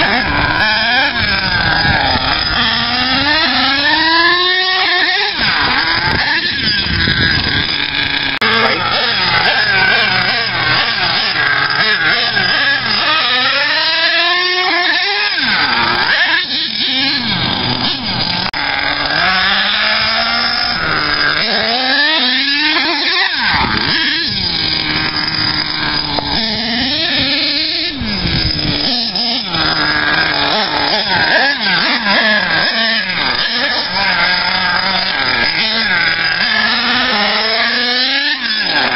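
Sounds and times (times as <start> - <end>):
nitro engine revving: 0.0 - 38.9.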